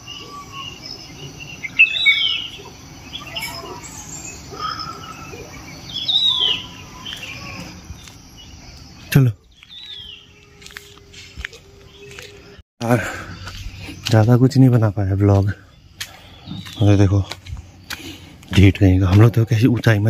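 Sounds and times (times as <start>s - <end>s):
loud falling bird calls: 0.0s - 20.0s
small birds chirping: 0.0s - 20.0s.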